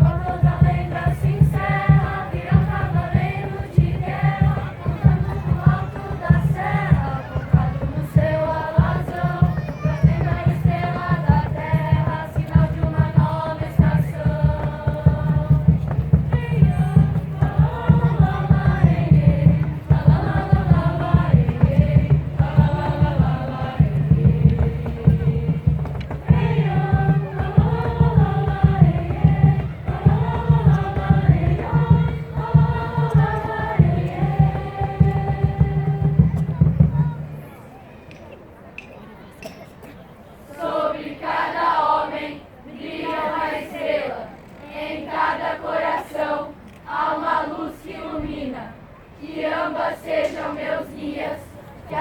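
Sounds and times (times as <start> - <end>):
group singing in unison: 0.0 - 36.6, 40.5 - 52.0.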